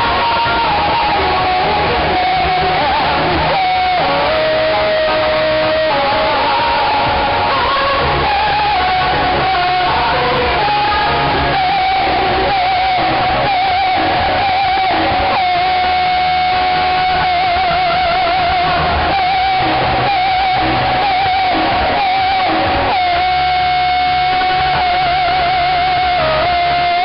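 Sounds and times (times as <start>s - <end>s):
live pop-rock band music: 0.0s - 27.0s.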